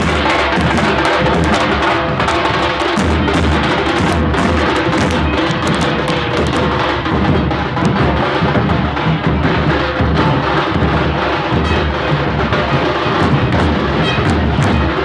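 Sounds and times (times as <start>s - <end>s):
crowd din: 0.0s - 15.0s
loud drum beating: 0.0s - 15.0s.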